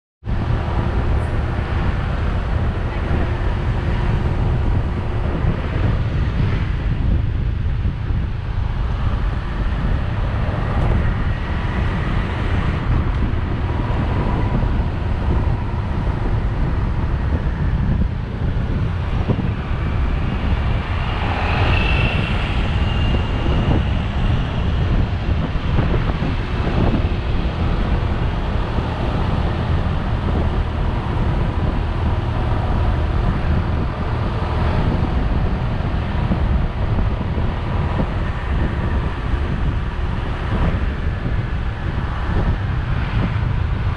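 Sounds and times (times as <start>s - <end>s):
wind buffeting microphone: 0.2s - 43.9s.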